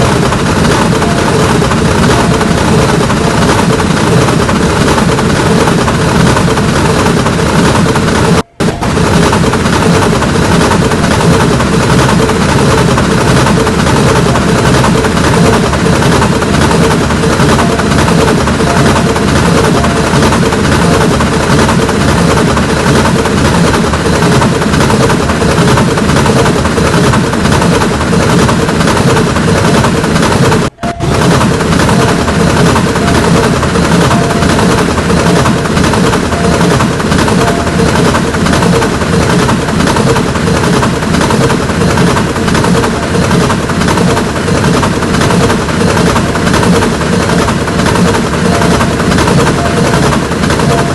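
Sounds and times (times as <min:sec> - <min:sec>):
train wheels clattering on rails: 0:00.0 - 0:50.9.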